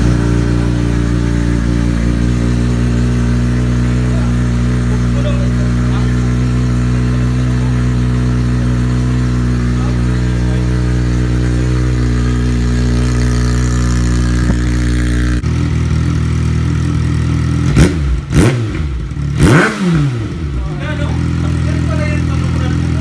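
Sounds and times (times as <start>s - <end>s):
motorcycle engine idling: 0.0s - 23.0s
motorcycle engine revving: 0.0s - 23.0s.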